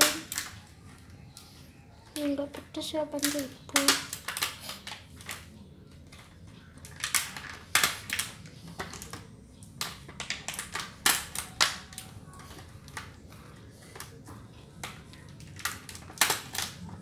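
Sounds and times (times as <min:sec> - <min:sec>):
plastic containers clicking and crackling: 0:00.0 - 0:17.0.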